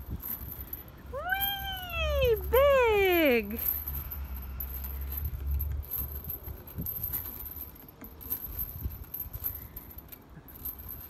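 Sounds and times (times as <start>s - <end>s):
swing chains clinking: 0.0s - 11.0s.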